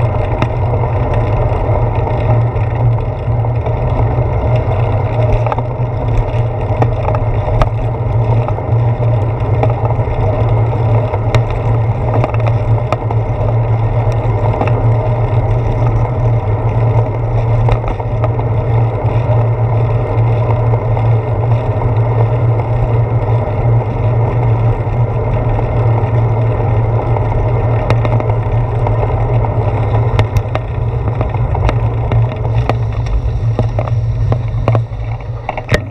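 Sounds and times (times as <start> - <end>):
bicycle rolling over pavement: 0.0 - 35.9
wind noise: 0.0 - 35.9.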